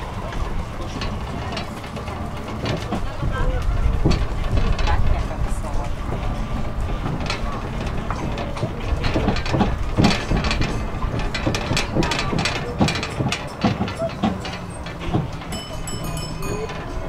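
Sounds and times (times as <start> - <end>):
carriages rattling and clicking: 0.0 - 17.0
road train rumble: 0.0 - 17.0.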